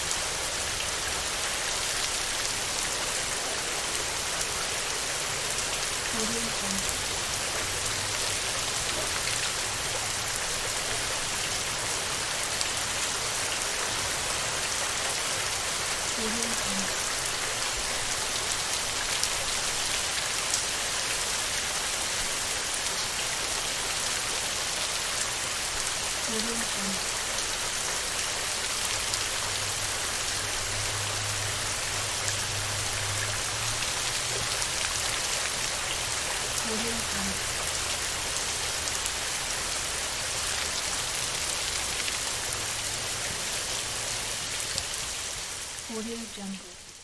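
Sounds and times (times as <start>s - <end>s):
heavy rain on a tin roof: 0.0s - 47.0s.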